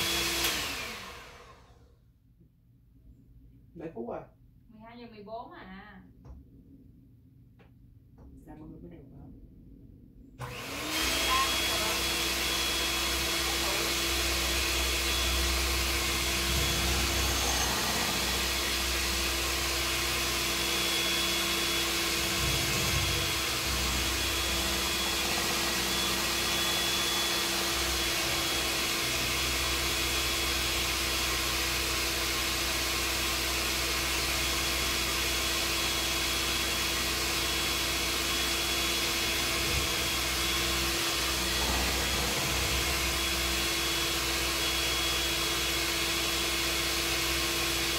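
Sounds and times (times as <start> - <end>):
kitchen appliance motor whirring: 0.0 - 1.8, 10.4 - 47.9.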